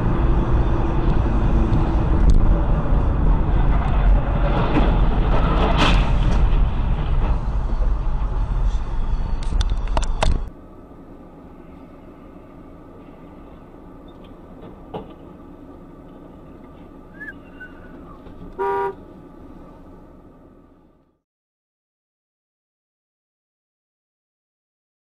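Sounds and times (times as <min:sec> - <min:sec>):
moving car rumble: 0:00.0 - 0:21.2.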